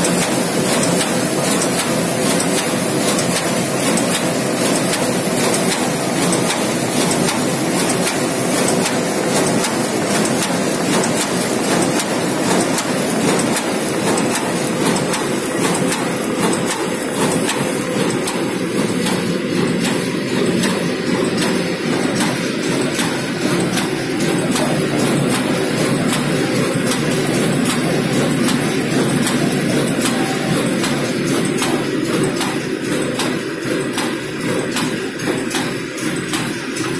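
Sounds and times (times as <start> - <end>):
machine clatter: 0.0 - 36.9.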